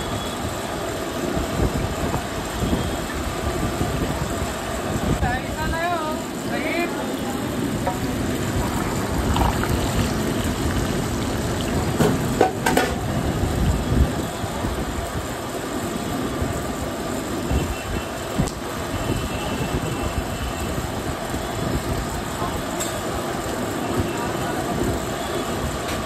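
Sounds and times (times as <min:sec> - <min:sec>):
oil sizzling and bubbling: 0:00.0 - 0:26.0.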